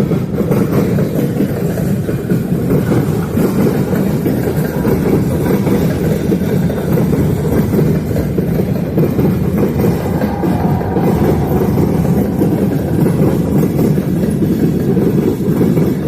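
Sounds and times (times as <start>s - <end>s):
freight train rumbling past: 1.0s - 16.0s.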